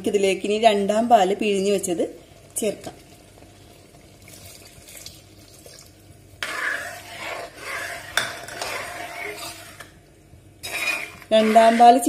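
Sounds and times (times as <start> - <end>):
pot simmering: 1.5 - 12.0.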